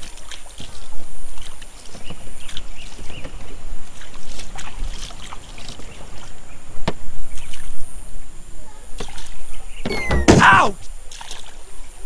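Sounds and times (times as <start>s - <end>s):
river water sloshing: 0.0s - 12.0s.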